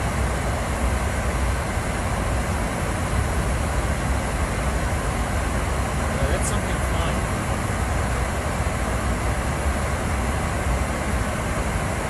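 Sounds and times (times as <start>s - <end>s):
airliner cockpit engine drone: 0.0s - 12.0s.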